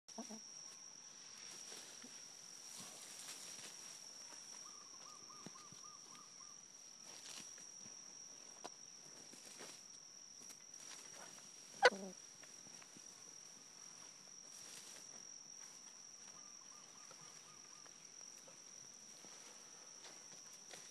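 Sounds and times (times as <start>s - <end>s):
high-pitched whine: 0.1s - 20.9s.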